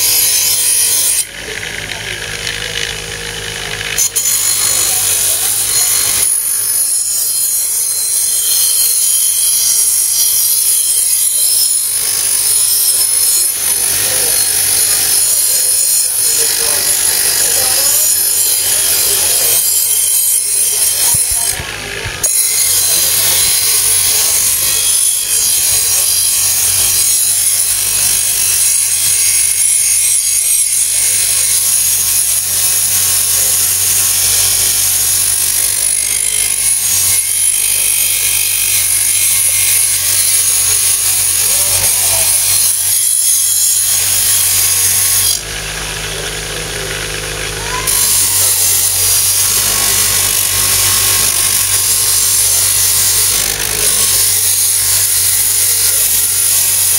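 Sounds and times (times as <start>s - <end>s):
blade grinding on grinder wheel: 0.0s - 56.9s
grinder motor hum: 0.0s - 56.9s.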